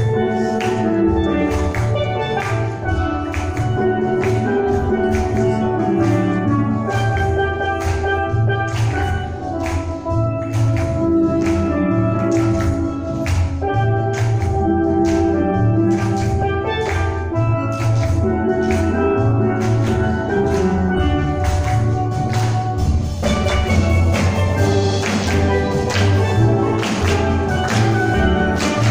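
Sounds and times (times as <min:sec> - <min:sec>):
steel drum ensemble playing: 0:00.0 - 0:28.9.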